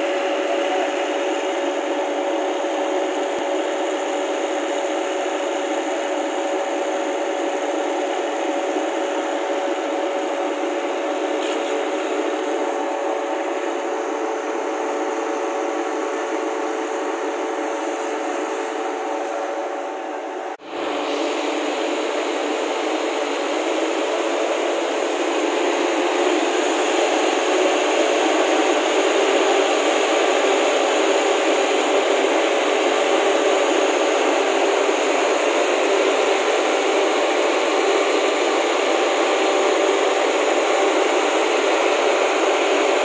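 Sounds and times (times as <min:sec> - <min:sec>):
mist cannon fan blowing air: 0:00.0 - 0:43.0.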